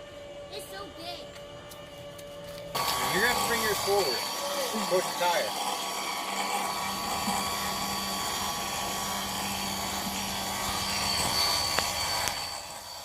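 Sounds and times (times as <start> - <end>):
leveling-jack motor running: 2.5 - 13.0.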